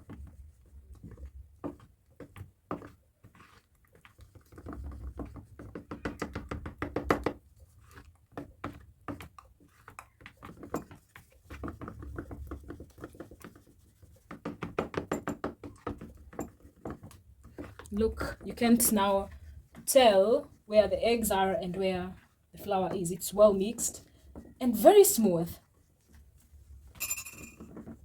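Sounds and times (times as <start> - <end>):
wet stirring of batter: 0.0 - 27.0, 27.6 - 28.0.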